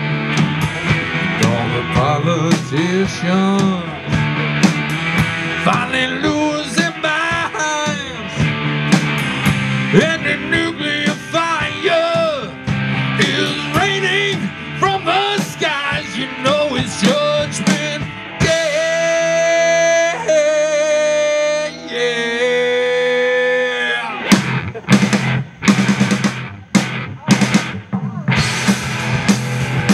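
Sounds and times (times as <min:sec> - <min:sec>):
bass guitar: 0:00.0 - 0:29.9
drums: 0:00.0 - 0:29.9
electric guitar lead: 0:00.0 - 0:29.9.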